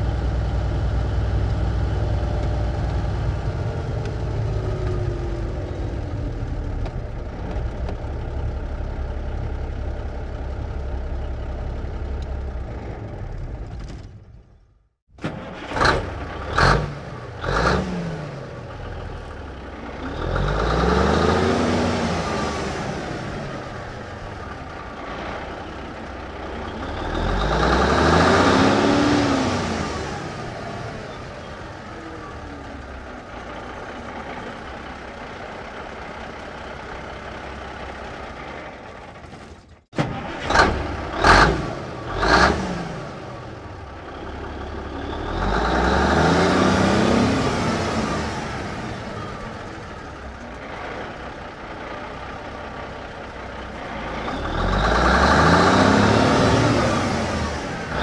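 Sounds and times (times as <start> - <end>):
truck engine revving and idling: 0.0 - 58.0.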